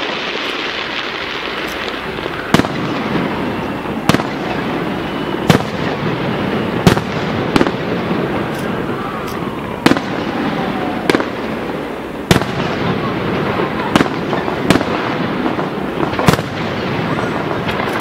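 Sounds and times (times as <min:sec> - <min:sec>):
firework shells bursting: 0:00.0 - 0:18.0
steady background noise: 0:00.0 - 0:18.0.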